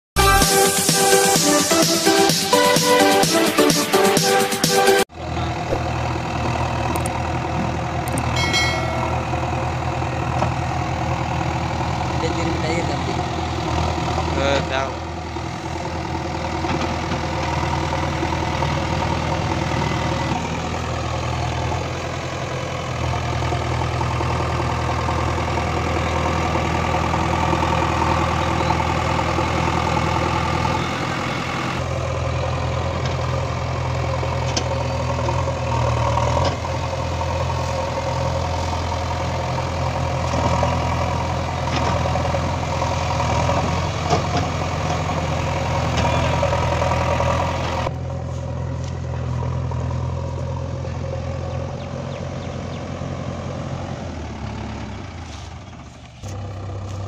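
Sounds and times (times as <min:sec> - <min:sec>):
diesel engine running: 0:00.2 - 0:57.0.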